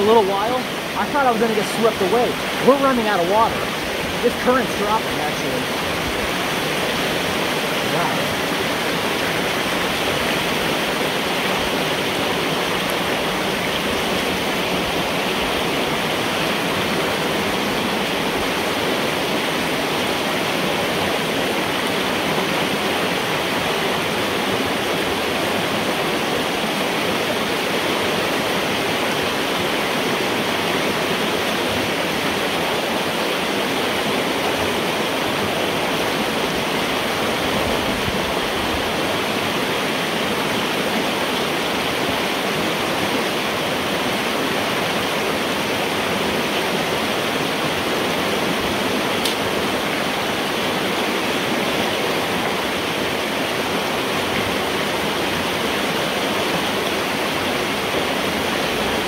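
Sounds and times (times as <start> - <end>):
water rushing through metal pipe: 0.0 - 59.0.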